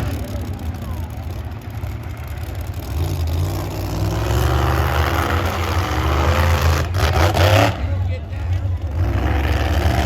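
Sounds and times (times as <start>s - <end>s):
monster truck engines revving: 0.0s - 10.0s.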